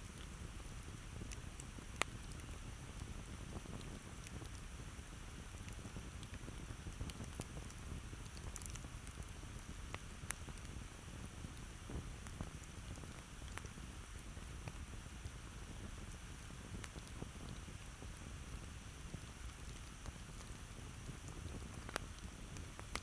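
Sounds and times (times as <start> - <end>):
burning wood crackling and popping: 0.0 - 23.0
low steady rumble: 0.0 - 23.0.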